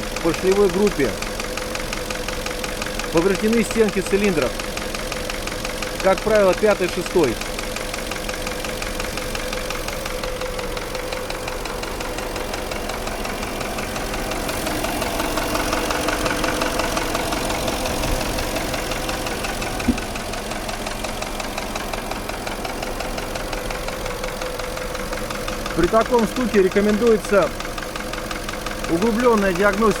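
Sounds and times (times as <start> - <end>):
engine knocking: 0.0 - 30.0.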